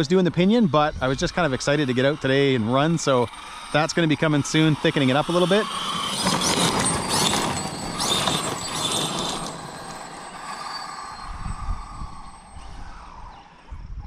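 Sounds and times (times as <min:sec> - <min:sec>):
rc truck driving with whine: 0:00.0 - 0:14.0.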